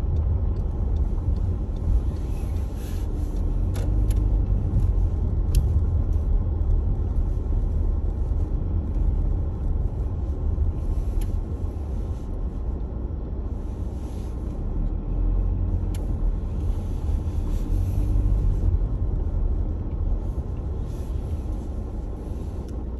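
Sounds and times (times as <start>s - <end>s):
car interior engine and tyre rumble: 0.0s - 22.9s.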